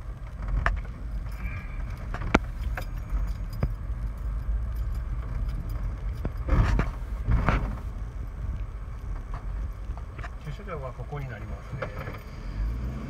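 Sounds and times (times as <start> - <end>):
car clicks and rattles: 0.0 - 12.4
car rattling over bumps: 0.0 - 13.0
road rumble in car cabin: 0.0 - 13.0.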